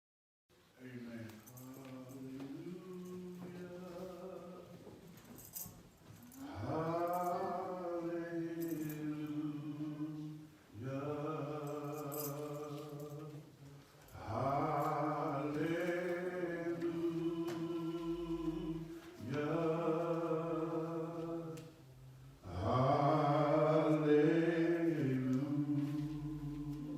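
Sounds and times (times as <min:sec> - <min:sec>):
person chanting: 0:00.8 - 0:04.8, 0:06.3 - 0:13.4, 0:14.1 - 0:21.8, 0:22.4 - 0:26.9.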